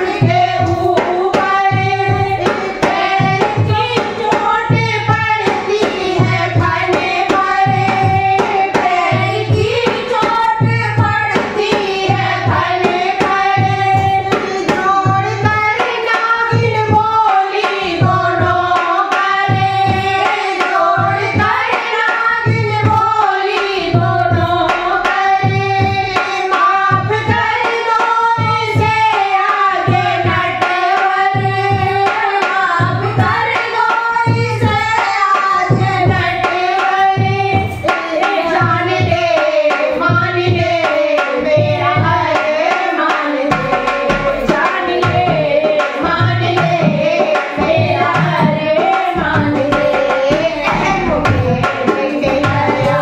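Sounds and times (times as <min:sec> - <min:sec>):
hand drum beat: 0:00.0 - 0:53.0
women singing devotional song: 0:00.0 - 0:53.0.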